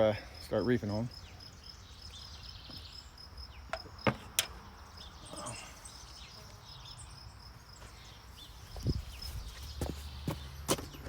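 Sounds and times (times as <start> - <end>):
cricket chirping: 0.0 - 10.6.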